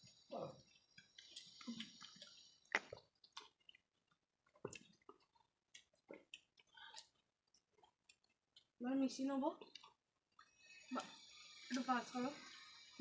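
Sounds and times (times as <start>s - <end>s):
eating sounds: 0.0s - 13.0s.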